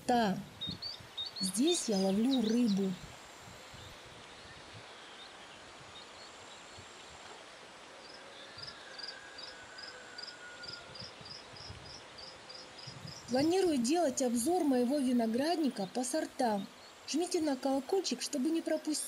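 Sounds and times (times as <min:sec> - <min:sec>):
faint steady hiss: 0:00.0 - 0:19.0
insect chirping: 0:00.6 - 0:14.7, 0:15.4 - 0:18.0.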